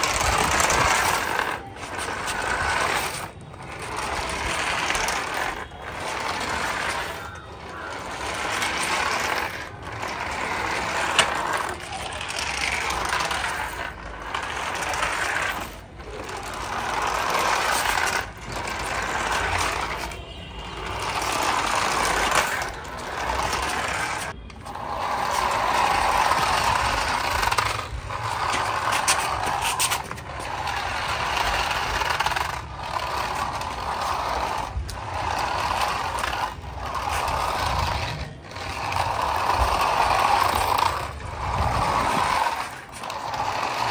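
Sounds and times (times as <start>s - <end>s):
toy cars whirring on concrete: 0.0s - 43.9s.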